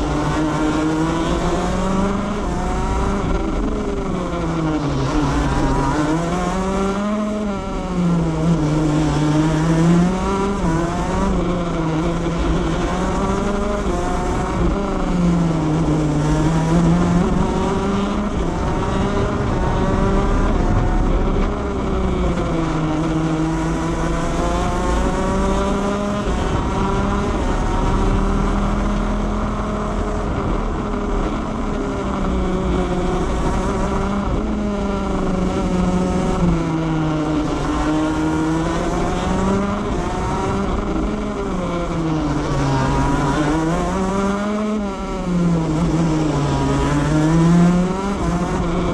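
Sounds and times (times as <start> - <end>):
kart engine revving: 0.0 - 48.9.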